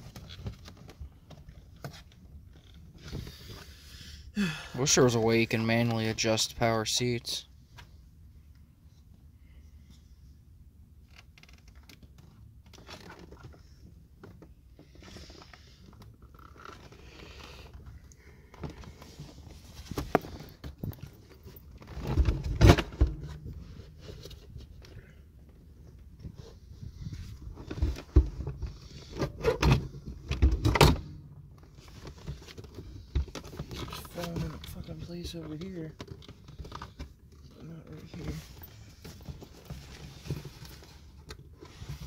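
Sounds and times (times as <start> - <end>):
clicks and scrapes of car seat: 0.0 - 3.8, 11.0 - 42.0.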